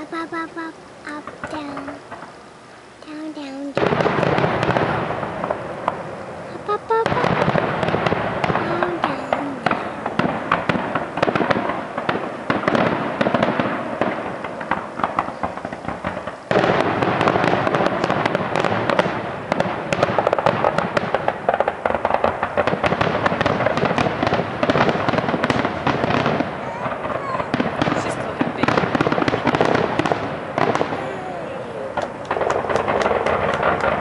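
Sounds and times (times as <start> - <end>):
fireworks bursting: 0.0 - 34.0.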